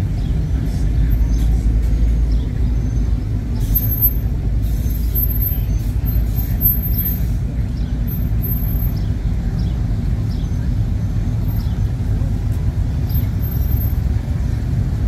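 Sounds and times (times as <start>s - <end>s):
car and truck engines rumbling: 0.0s - 15.0s.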